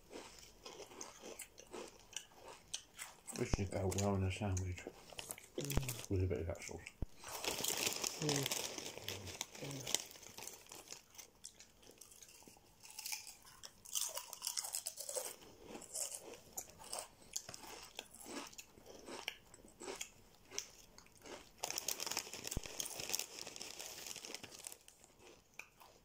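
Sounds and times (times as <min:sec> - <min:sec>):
crisps crunching when chewed: 0:00.0 - 0:26.0.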